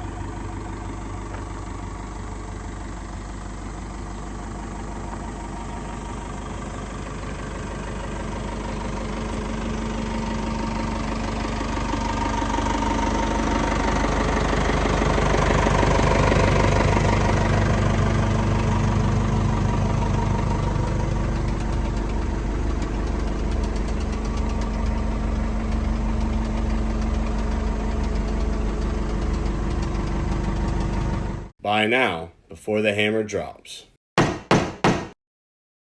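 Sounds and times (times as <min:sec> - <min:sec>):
diesel engine running: 0:00.0 - 0:31.5.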